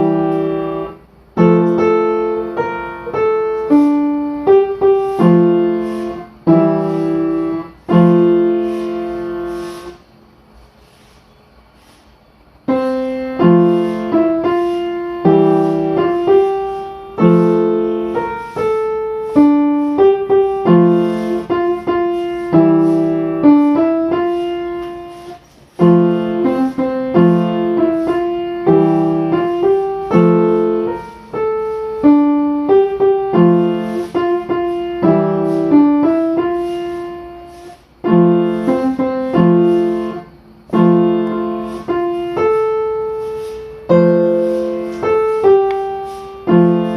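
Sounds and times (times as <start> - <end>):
solo piano music: 0.0 - 10.4, 12.4 - 46.9.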